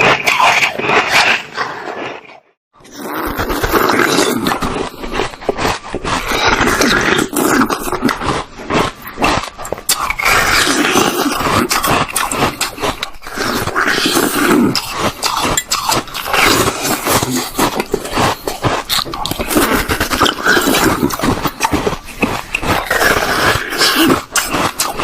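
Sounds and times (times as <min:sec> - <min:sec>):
crunching and chewing ice: 0:00.0 - 0:25.0.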